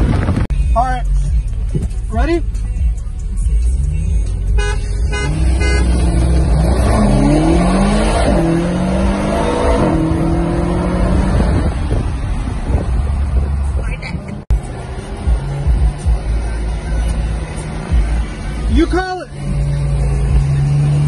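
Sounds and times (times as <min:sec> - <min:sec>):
car engine accelerating hard: 0:03.5 - 0:21.0.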